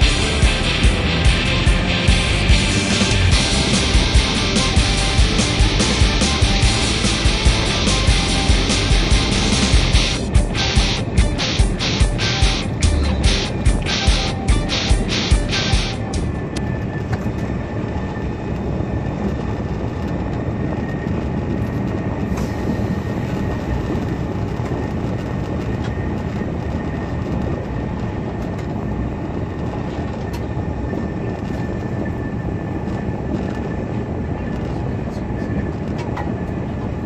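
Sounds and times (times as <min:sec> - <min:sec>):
train rolling rumble: 0:00.0 - 0:37.0.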